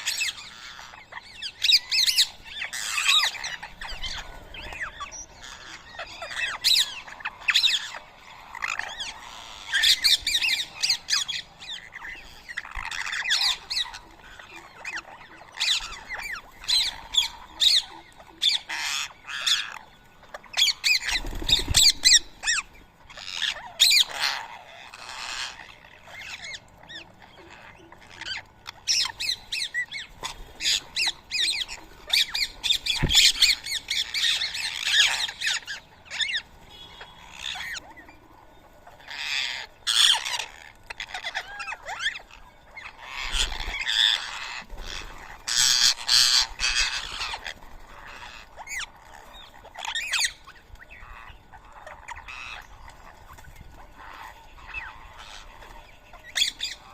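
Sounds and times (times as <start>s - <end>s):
parakeets squawking: 0.0s - 56.9s.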